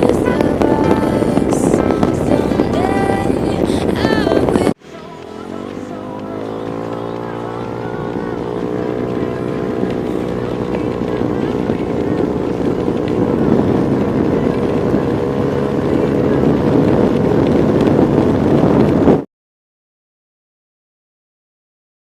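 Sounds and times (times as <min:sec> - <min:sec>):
motorcycle engine running: 0:00.0 - 0:19.2.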